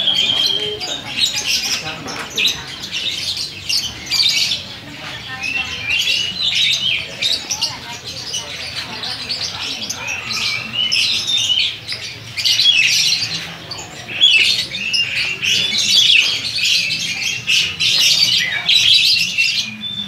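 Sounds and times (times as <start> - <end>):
lovebirds chirping and squawking: 0.0 - 20.0.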